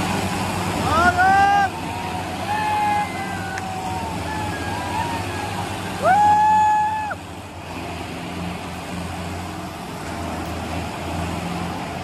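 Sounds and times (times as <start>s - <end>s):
tractor engines droning: 0.0s - 12.0s.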